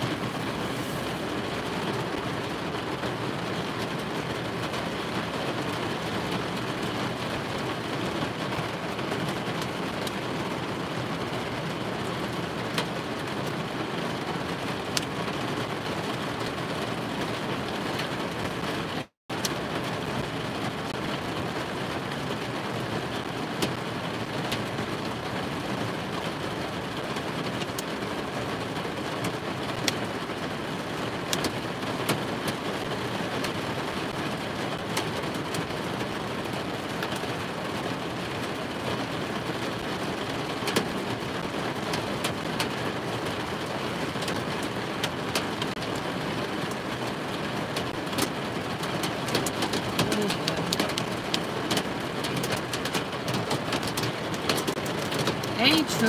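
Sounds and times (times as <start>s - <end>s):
heavy rain drumming on vehicle: 0.0s - 56.0s.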